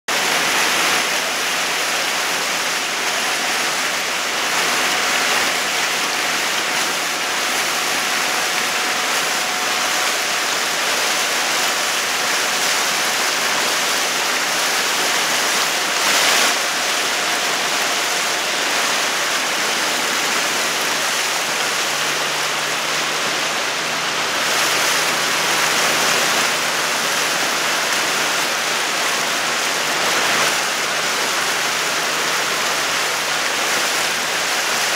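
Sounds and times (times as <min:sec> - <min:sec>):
water rushing past boat hull: 0:00.1 - 0:34.9.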